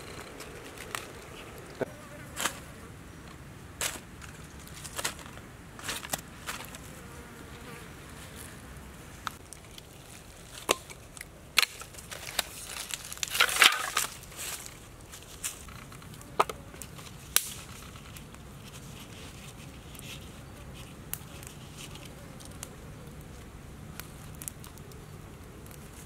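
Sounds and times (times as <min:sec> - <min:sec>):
dry leaves crackling underfoot: 0:00.0 - 0:02.7, 0:03.8 - 0:06.9, 0:08.0 - 0:26.0.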